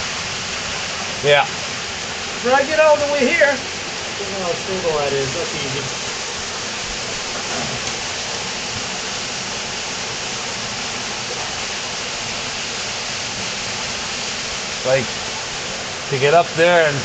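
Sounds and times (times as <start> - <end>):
cave waterfall rushing: 0.0 - 17.0.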